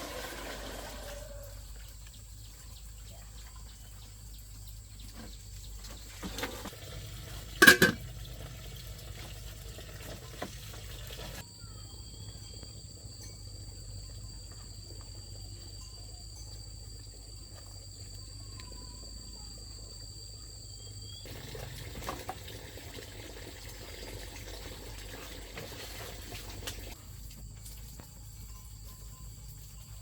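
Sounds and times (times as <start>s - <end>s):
insects chirring: 1.0s - 30.0s.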